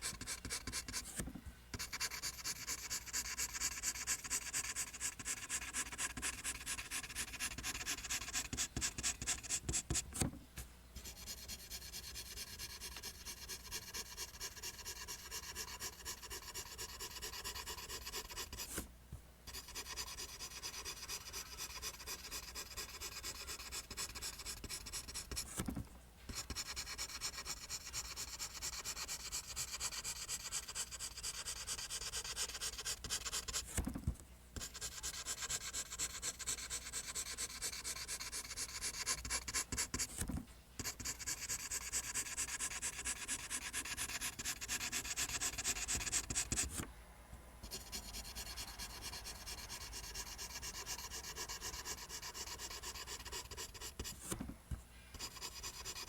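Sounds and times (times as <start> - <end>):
pencil scratching on paper: 0.0 - 10.3, 11.0 - 18.8, 19.5 - 25.7, 26.3 - 34.0, 34.6 - 46.9, 47.6 - 54.4, 55.1 - 56.0.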